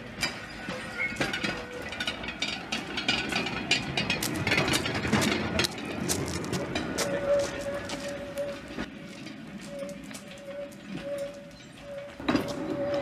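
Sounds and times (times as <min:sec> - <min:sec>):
metal wheels rolling on rails: 0:00.0 - 0:13.0.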